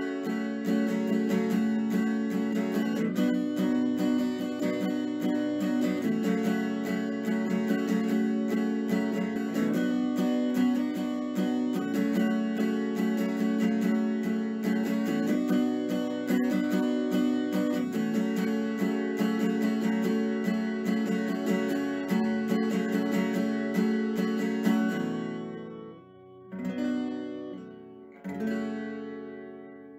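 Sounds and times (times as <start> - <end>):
acoustic guitar plucking chords: 0.0 - 29.9.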